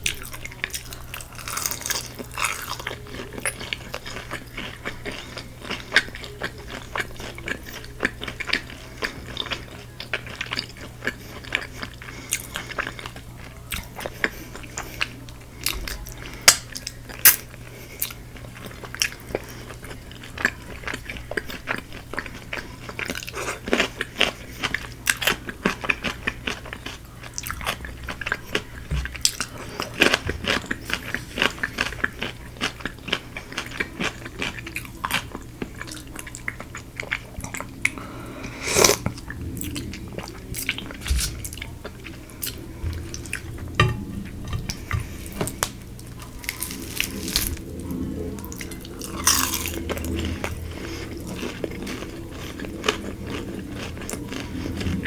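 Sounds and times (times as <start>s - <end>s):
crunching and chewing fried chicken: 0.0s - 55.0s.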